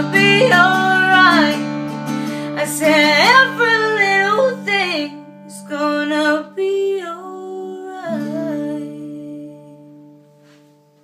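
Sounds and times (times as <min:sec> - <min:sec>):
woman singing: 0:00.0 - 0:10.2
acoustic guitar: 0:00.0 - 0:11.0.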